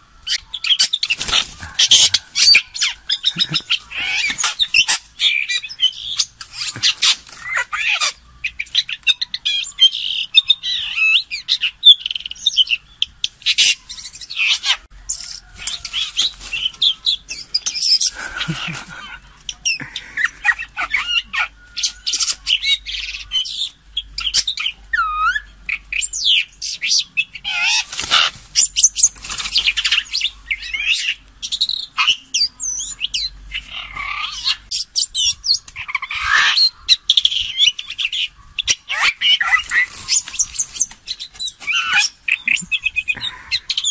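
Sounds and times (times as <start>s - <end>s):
magpies chattering and whistling: 0.0s - 43.9s.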